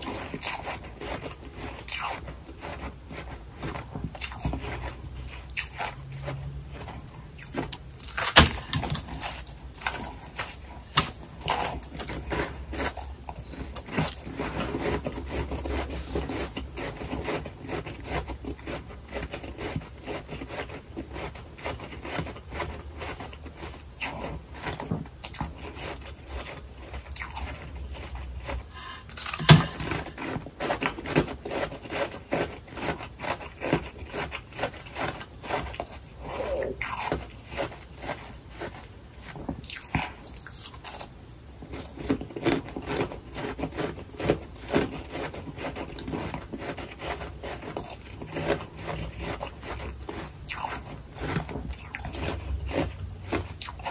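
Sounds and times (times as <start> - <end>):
chewing crunchy frost: 0.0 - 53.9.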